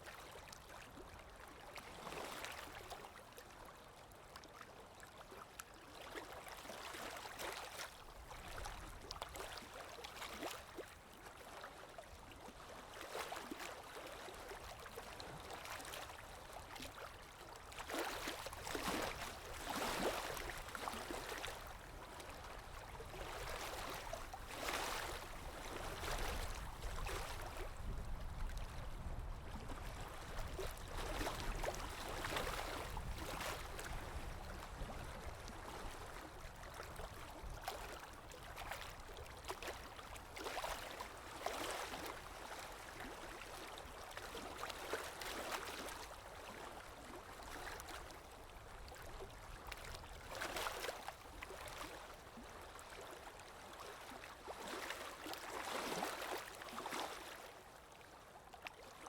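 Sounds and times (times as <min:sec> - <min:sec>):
water lapping: 0:04.5 - 0:59.0.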